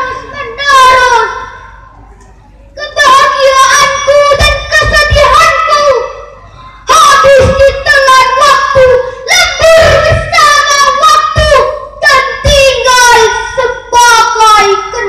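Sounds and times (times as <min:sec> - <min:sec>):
girl reciting poem sing-song: 0:00.0 - 0:01.8, 0:02.7 - 0:15.0.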